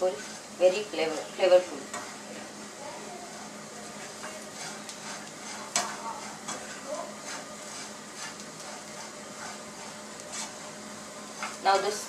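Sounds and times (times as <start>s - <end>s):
spoon stirring and scraping: 0.0s - 2.7s, 3.3s - 12.0s
food sizzling in a frying pan: 0.0s - 12.0s.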